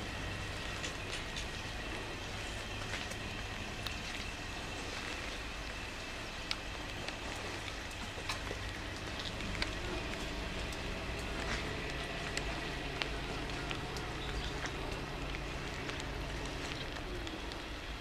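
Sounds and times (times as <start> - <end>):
low rumble: 0.0 - 18.0
light ticks: 0.3 - 18.0.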